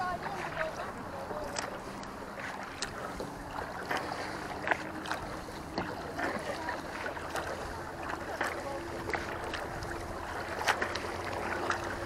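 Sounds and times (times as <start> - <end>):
paddle splashes and drips: 0.0 - 12.0
small waves against kayak hull: 0.0 - 12.0.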